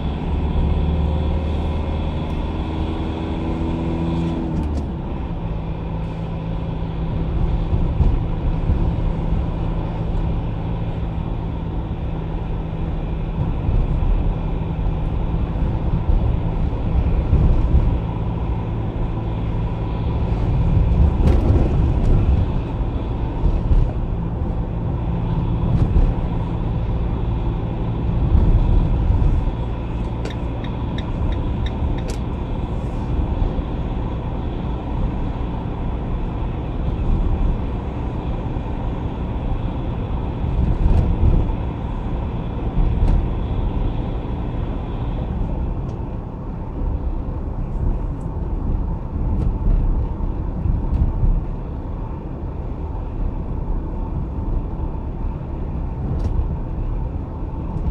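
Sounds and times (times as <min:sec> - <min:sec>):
car engine and tyre noise: 0:00.0 - 0:57.9.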